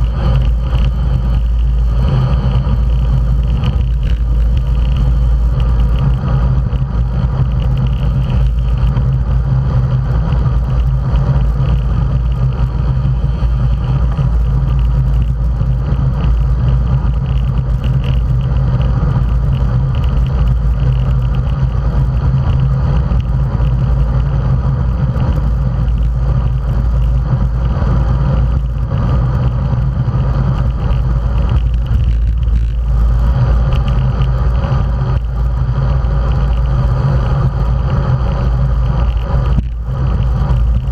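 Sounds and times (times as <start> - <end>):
road rumble: 0.0 - 40.9
wind rush: 0.0 - 40.9.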